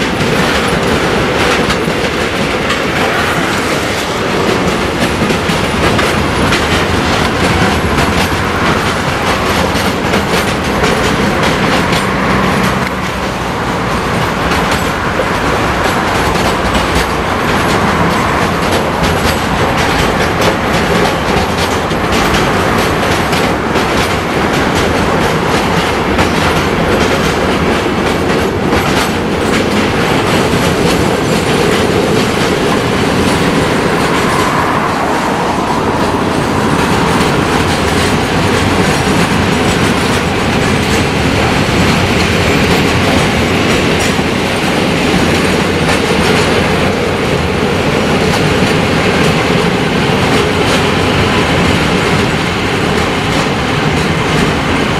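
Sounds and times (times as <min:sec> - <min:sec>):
freight train wheels rumbling: 0:00.0 - 0:54.9
wheels clacking over rail joints: 0:00.0 - 0:54.9.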